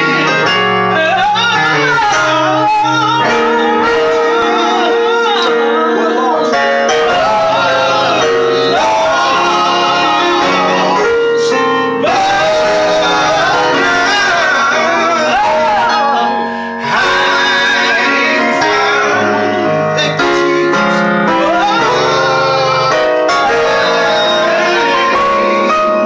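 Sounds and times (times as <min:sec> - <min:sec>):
gospel group singing in harmony: 0:00.0 - 0:26.0
keyboard chords: 0:00.0 - 0:26.0.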